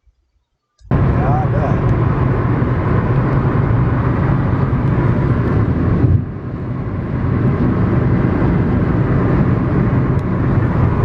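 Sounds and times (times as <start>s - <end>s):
car engine and road rumble: 0.8s - 11.0s
wind noise: 0.8s - 11.0s.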